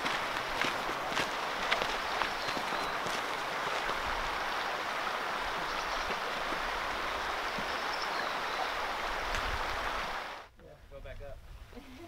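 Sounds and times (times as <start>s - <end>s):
creek flowing over rocks: 0.0s - 10.5s.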